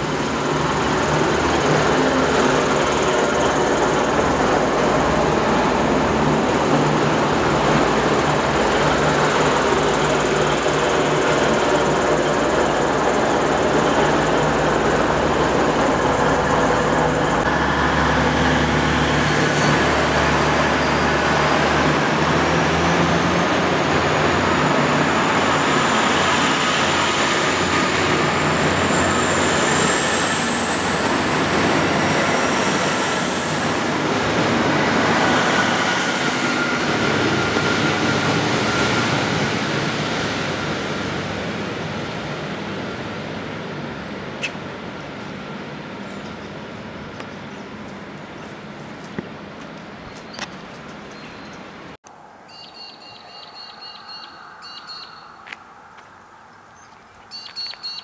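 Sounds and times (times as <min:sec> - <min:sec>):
diesel train engines running: 0:00.0 - 0:52.0.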